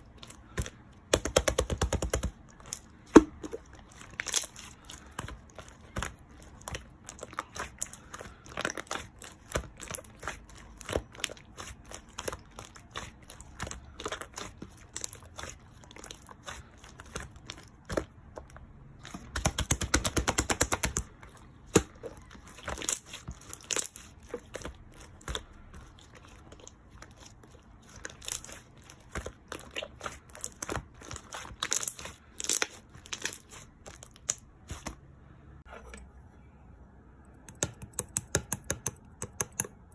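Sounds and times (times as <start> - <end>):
slime squelching clicks and crackles: 0.1 - 34.9.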